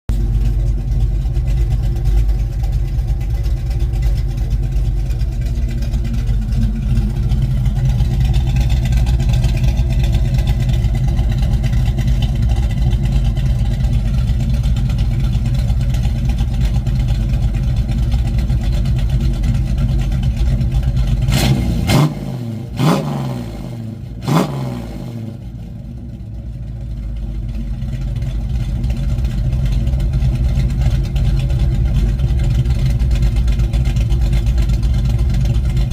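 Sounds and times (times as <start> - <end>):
car engine running loud: 0.1 - 35.9.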